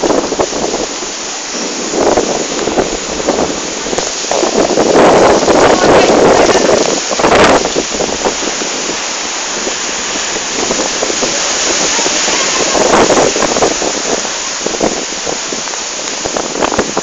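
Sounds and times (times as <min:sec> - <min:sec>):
strong storm wind: 0:00.0 - 0:17.0
wind gusts buffeting microphone: 0:00.0 - 0:17.0.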